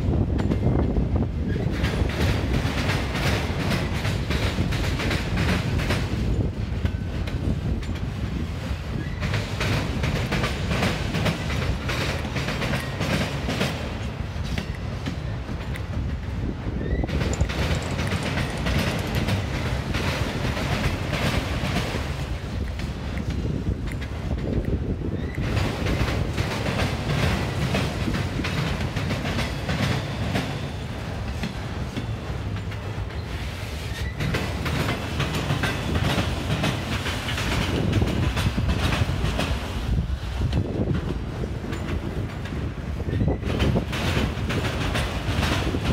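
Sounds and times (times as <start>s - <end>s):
freight cars rumbling on rails: 0.0s - 45.9s
wheels clicking over rail joints: 0.0s - 45.9s.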